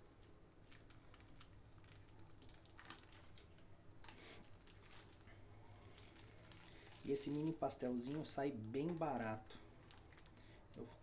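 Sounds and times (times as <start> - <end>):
plastic bag crinkling: 0.1 - 11.0.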